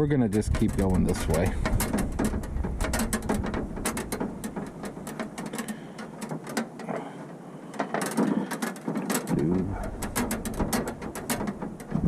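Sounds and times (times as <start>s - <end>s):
pipe cutter clicking and scraping: 0.3s - 7.1s, 7.7s - 12.0s.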